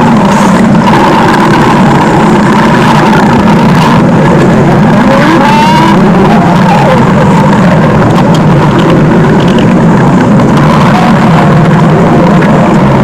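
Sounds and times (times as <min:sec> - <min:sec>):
stomach growling: 0:00.0 - 0:13.0.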